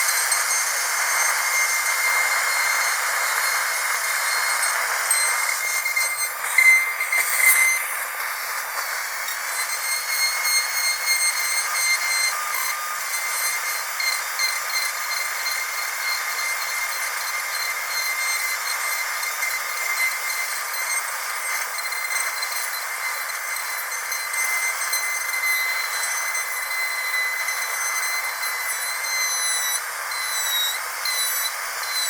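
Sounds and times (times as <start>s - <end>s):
dental drill whining: 0.0s - 32.0s.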